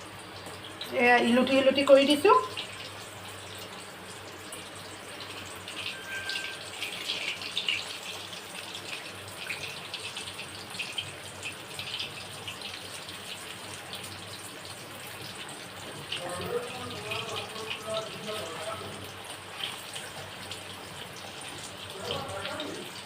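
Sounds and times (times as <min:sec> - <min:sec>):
food frying in hot oil: 0:00.0 - 0:23.0.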